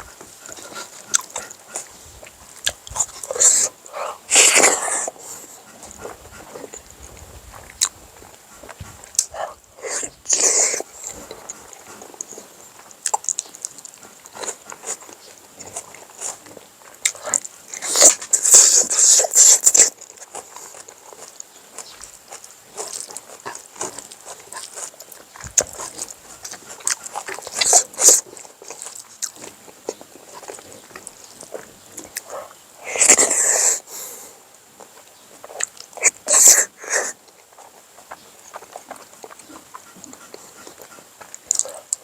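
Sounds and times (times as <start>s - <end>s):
person chewing with mouth close: 0.0s - 42.0s.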